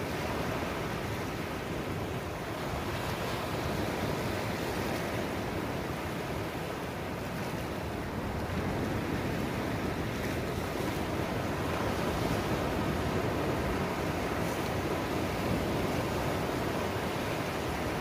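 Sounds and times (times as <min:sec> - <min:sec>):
small waves washing on sand: 0:00.0 - 0:18.0.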